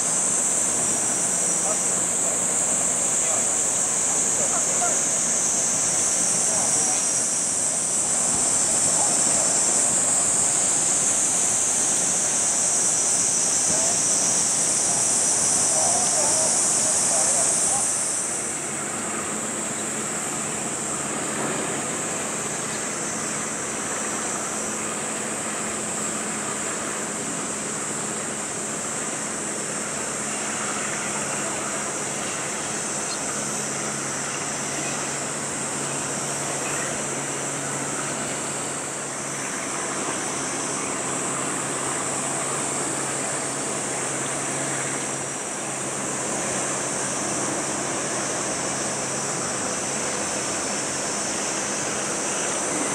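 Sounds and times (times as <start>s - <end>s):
high-pitched hiss: 0.0s - 52.9s
low hum of passing ship: 0.0s - 52.9s
water: 0.0s - 52.9s
wind: 0.0s - 52.9s.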